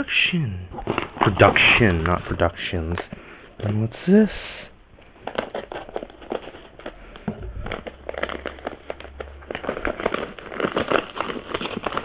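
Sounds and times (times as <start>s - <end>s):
paper and plastic crinkling: 0.7s - 4.4s, 5.0s - 12.0s.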